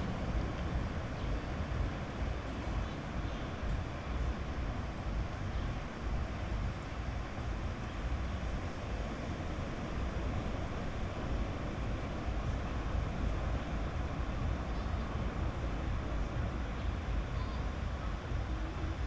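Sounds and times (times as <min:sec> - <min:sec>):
waves washing on a beach: 0:00.0 - 0:19.0
wind rumbling on microphone: 0:00.0 - 0:19.0.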